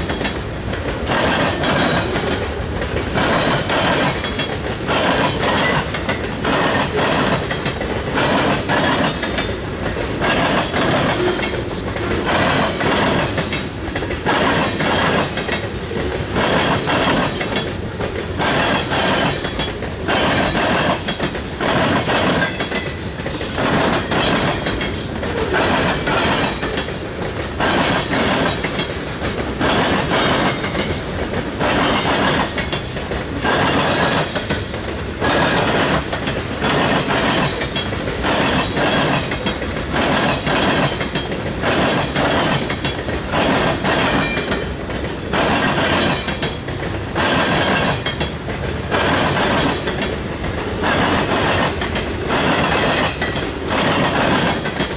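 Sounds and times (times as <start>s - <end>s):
train wheels clattering over rail joints: 0.0s - 54.9s.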